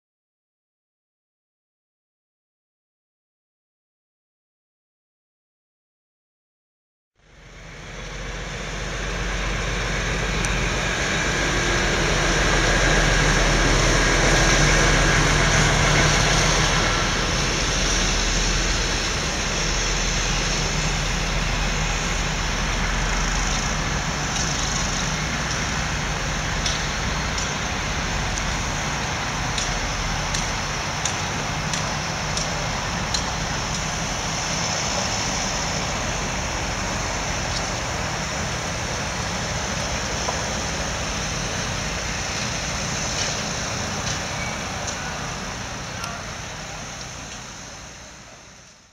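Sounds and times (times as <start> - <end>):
diesel locomotive engine running: 7.2 - 48.9.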